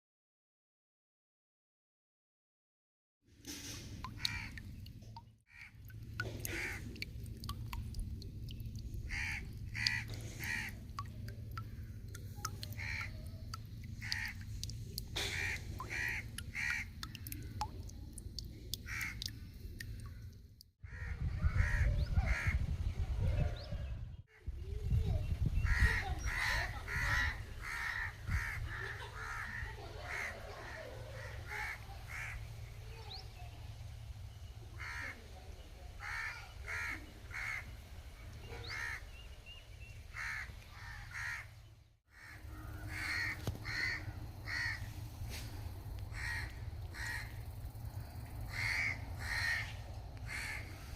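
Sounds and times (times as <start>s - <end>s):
birds calling: 4.0s - 50.9s.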